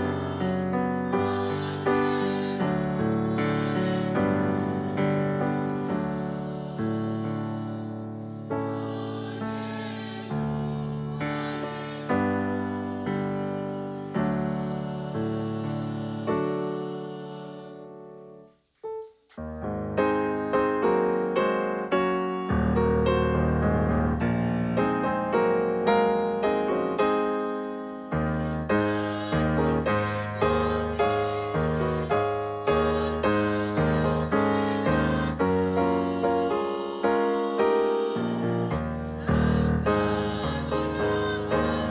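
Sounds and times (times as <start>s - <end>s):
piano chords: 0.0s - 18.4s, 19.4s - 41.9s.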